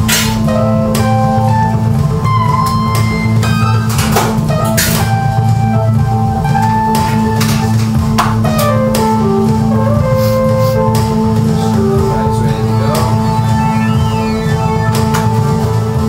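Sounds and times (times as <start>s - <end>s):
bass line: 0.0s - 16.0s
drums: 0.0s - 16.0s
synthesizer melody: 0.0s - 16.0s.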